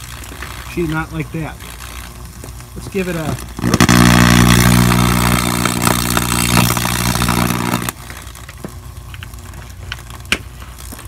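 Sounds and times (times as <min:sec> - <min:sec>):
electrical arcing buzz with crackling: 0:00.0 - 0:11.0.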